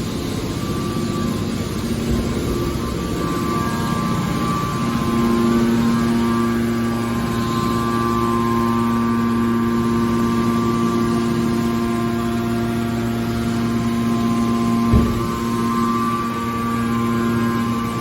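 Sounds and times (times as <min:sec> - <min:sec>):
hydraulic baler humming: 0:00.0 - 0:18.0.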